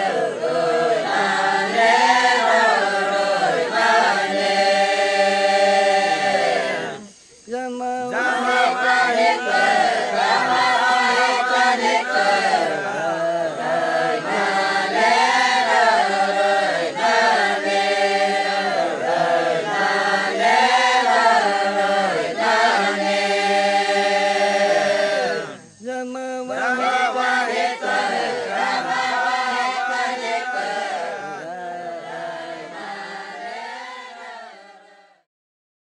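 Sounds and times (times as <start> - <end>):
group chanting in unison: 0.0 - 35.3.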